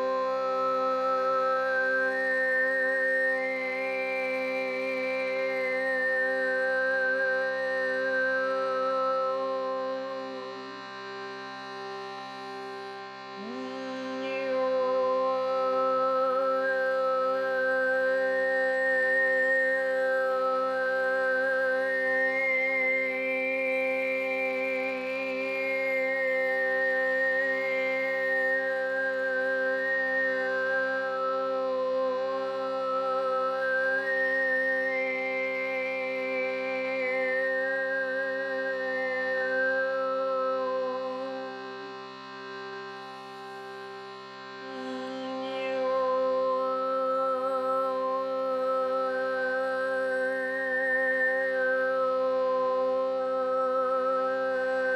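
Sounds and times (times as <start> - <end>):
meditation music with drone: 0.0 - 54.9.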